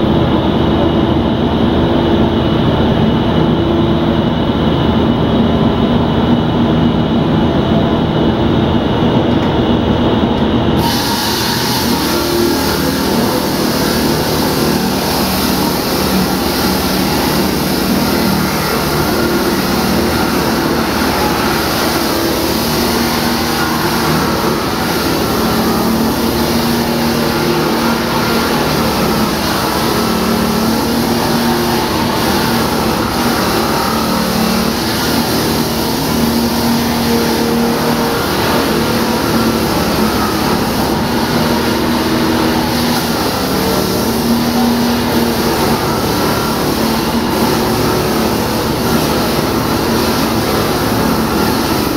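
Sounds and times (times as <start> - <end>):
loud engine running: 0.0 - 51.9
noisy mechanical sound: 0.0 - 51.9.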